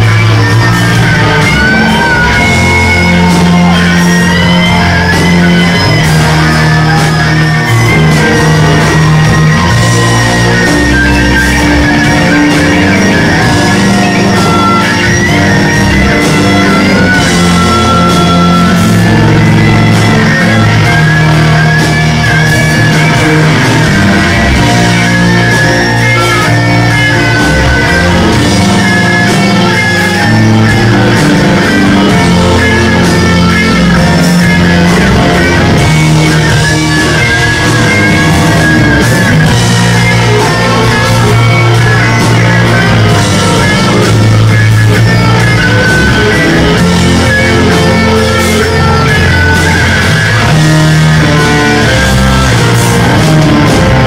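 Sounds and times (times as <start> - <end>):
electric guitar lead bending notes: 0.0 - 54.0
rock band playing live: 0.0 - 54.0.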